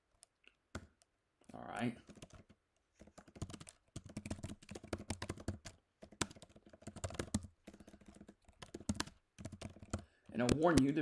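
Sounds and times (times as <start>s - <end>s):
typing on computer keyboard: 2.0s - 11.0s.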